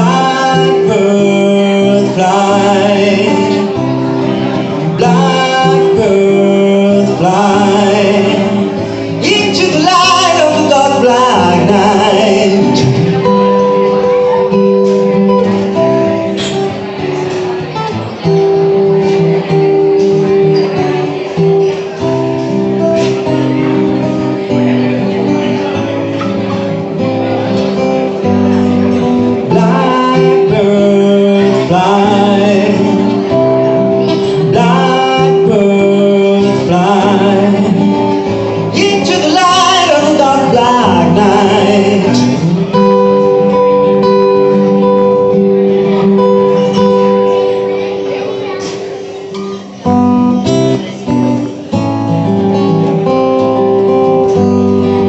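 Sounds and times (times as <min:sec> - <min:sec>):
acoustic guitar music: 0:00.0 - 0:55.0.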